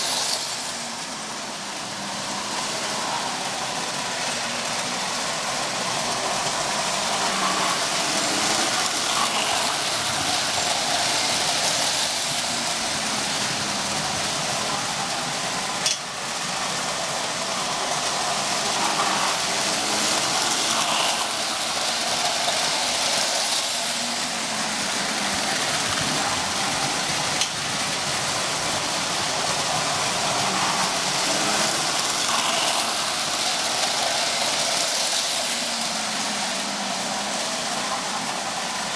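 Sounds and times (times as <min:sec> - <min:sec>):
toy train wheels rumbling: 0:00.0 - 0:38.9.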